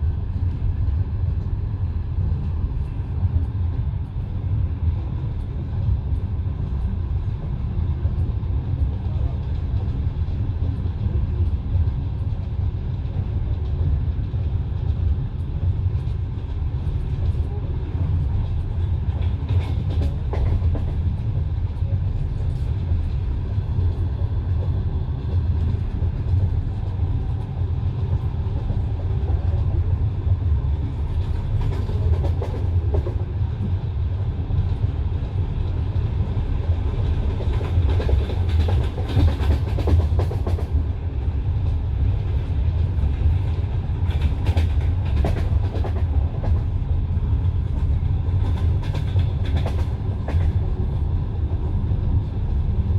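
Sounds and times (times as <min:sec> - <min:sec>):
train rumble inside carriage: 0:00.0 - 0:52.9.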